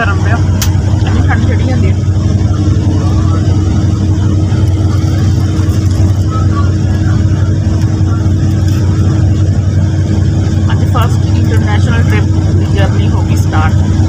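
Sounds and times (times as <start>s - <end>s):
bus engine and road rumble: 0.0s - 14.0s
constant hum: 0.0s - 14.0s.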